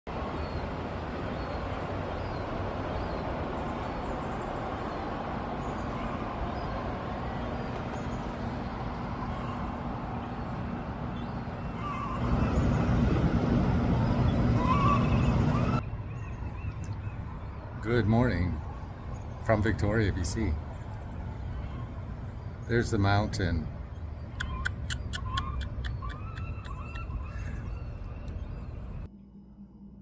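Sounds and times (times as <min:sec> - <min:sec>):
road traffic noise: 0:00.1 - 0:29.1
vehicle engine hum: 0:00.1 - 0:29.1.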